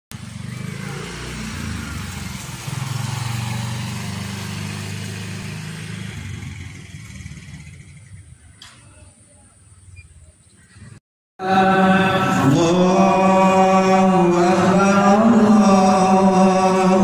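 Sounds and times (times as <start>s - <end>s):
motorcycle engine passing by: 0.1s - 8.6s, 11.8s - 17.0s.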